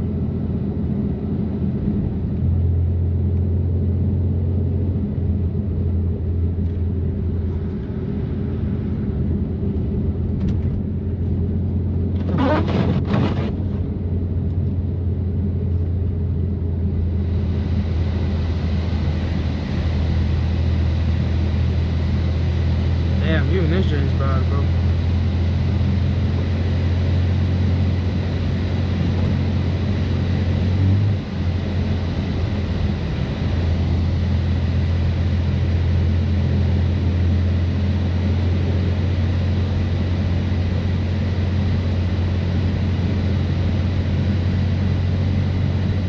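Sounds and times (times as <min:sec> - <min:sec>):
car engine and exhaust droning: 0:00.0 - 0:46.0.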